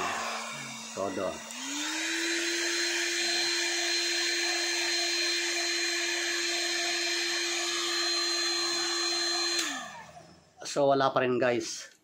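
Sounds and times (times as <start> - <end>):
hot air gun fan humming: 0.0 - 10.4.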